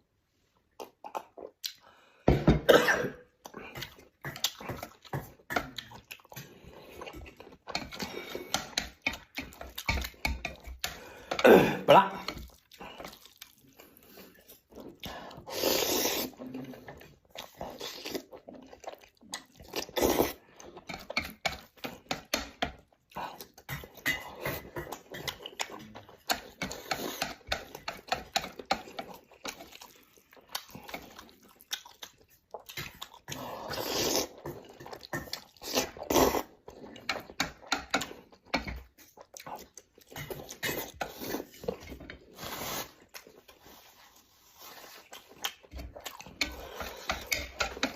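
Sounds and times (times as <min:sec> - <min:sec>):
person chewing noodles: 0:00.2 - 0:02.2, 0:03.2 - 0:47.9.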